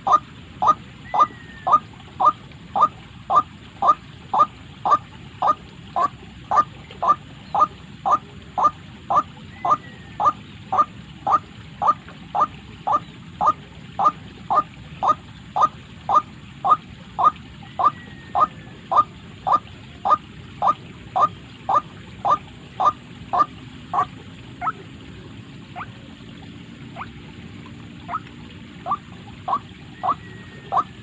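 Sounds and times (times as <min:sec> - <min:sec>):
waterhen calling: 0:00.0 - 0:31.0.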